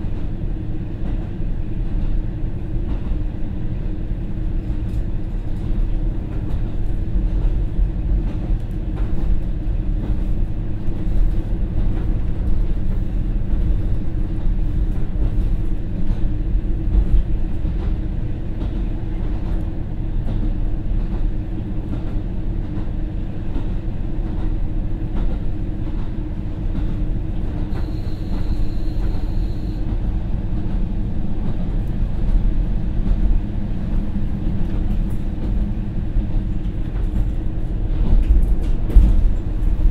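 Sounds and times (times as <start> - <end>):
diesel railcar engine drone: 0.0 - 39.9
rail joint clicks: 0.0 - 39.9.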